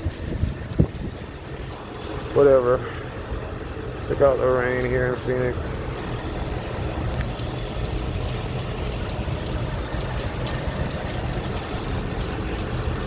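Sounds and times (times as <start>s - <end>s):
continuous low rumble: 0.0s - 13.0s
heavy rain falling: 0.0s - 13.0s.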